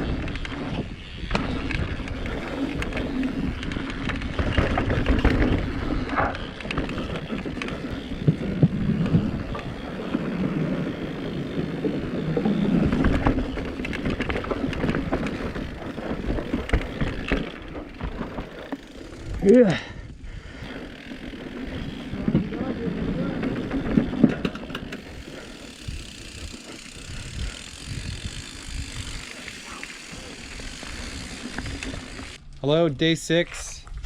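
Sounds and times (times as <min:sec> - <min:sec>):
bike clicks and rattles: 0:00.0 - 0:32.8
bike tyres rolling on dirt: 0:00.0 - 0:34.0.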